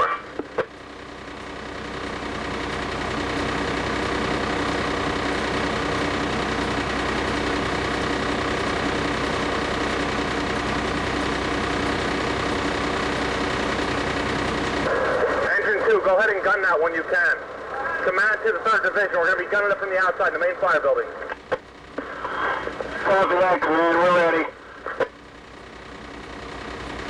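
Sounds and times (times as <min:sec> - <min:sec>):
fire engine running: 0:00.0 - 0:27.0.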